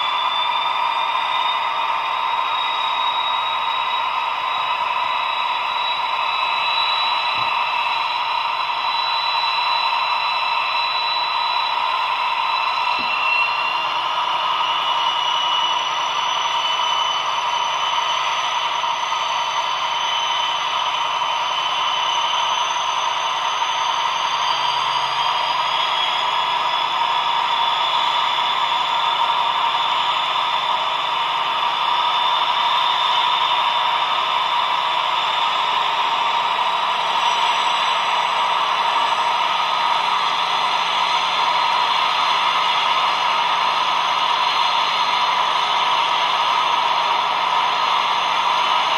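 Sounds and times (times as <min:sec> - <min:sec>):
diesel locomotive engine from loudspeaker: 0:00.0 - 0:48.9.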